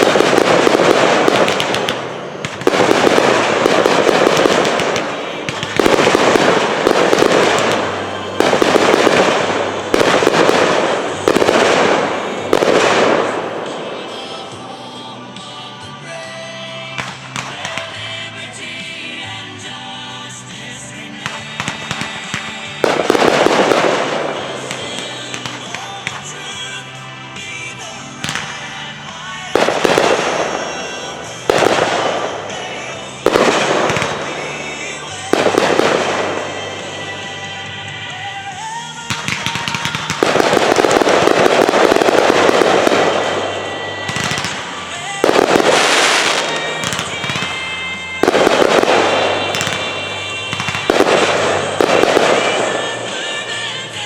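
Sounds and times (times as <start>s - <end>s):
fireworks booming and crackling: 0.0s - 16.1s, 16.8s - 19.6s, 20.4s - 54.0s
music playing: 0.0s - 54.0s.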